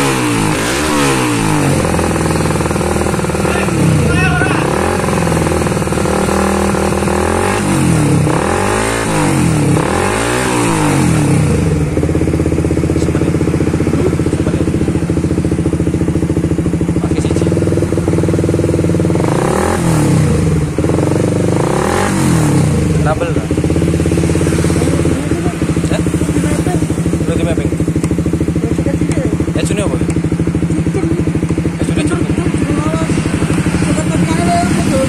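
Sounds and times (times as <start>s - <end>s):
motorcycle engine idling: 0.0s - 35.0s
motorcycle throttle blips: 0.0s - 35.0s.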